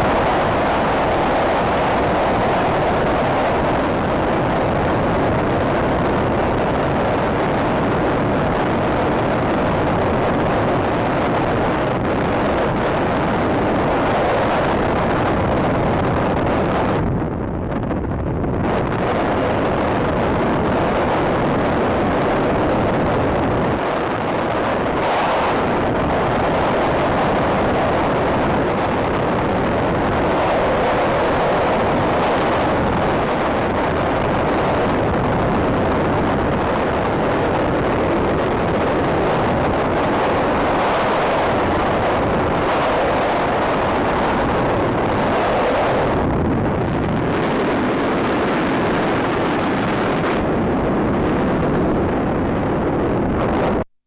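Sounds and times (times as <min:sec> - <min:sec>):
freefall wind buffeting microphone: 0:00.0 - 0:53.9.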